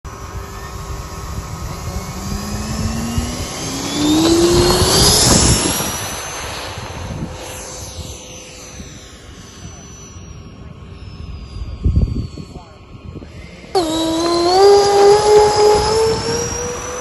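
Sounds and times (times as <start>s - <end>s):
model jet whine flying past: 0.1s - 17.0s.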